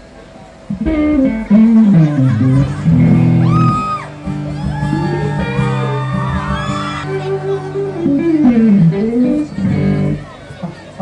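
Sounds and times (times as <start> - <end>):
live band music: 0.7 - 10.3
crowd shouting and screaming: 1.9 - 11.0.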